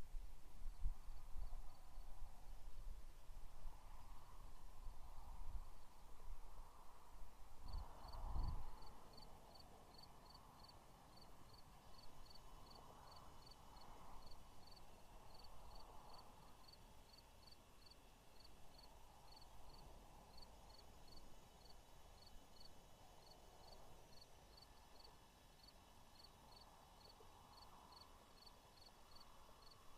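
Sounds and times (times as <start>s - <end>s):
soft outdoor rush: 0.0s - 29.9s.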